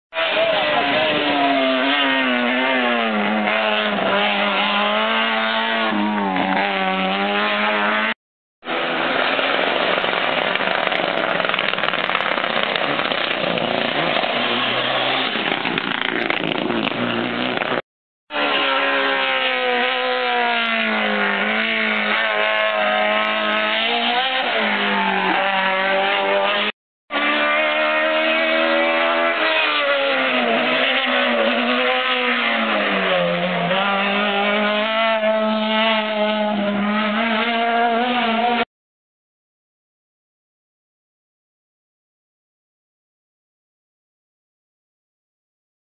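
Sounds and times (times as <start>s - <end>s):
race car engines revving: 0.1s - 38.7s.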